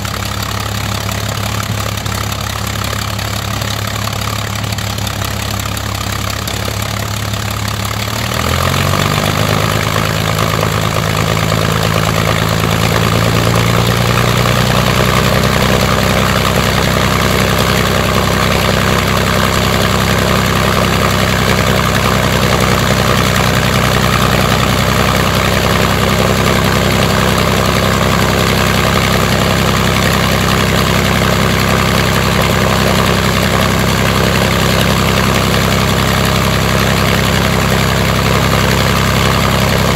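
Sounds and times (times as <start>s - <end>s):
aero engine running: 0.0s - 39.9s.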